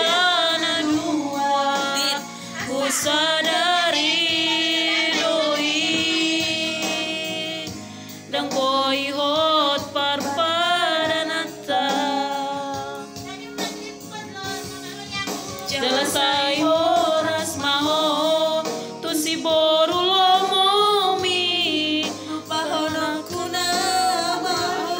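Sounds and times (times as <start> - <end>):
person singing with vibrato: 0.0 - 13.3, 14.6 - 24.9
keyboard karaoke accompaniment: 0.0 - 24.9.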